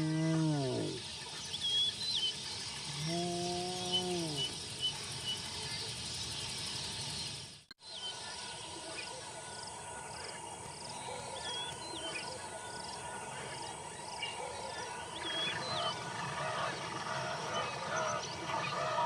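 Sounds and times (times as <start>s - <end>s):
chorus of wavering bird calls: 0.0s - 19.0s.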